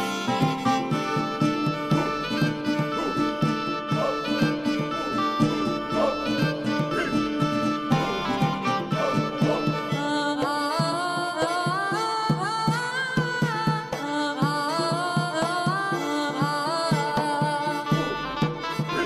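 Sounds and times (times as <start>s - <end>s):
steady percussion: 0.0s - 19.0s.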